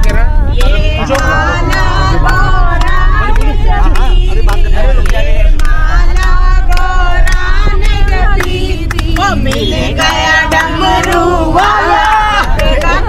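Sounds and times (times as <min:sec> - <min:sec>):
engine and road rumble: 0:00.0 - 0:13.0
hands clapping: 0:00.0 - 0:13.0
women singing together: 0:00.0 - 0:13.0.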